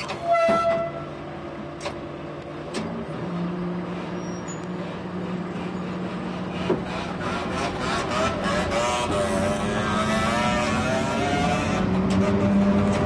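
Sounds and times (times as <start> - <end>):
diesel railcar engine running: 0.0 - 13.0.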